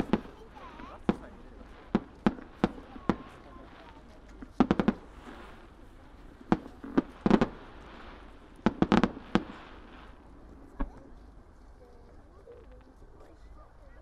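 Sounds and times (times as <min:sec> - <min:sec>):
fireworks bursting in sharp bangs: 0:00.0 - 0:13.6.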